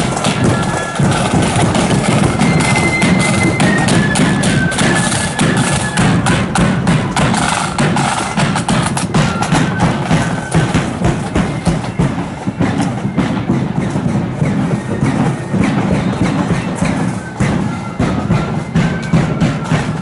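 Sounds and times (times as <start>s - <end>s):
high flute melody: 0.0s - 20.0s
rapid snare drum strokes: 0.0s - 20.0s.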